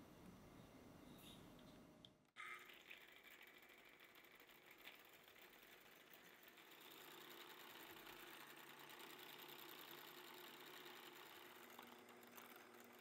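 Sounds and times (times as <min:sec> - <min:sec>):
electric hand mixer whisking: 0:02.4 - 0:13.0.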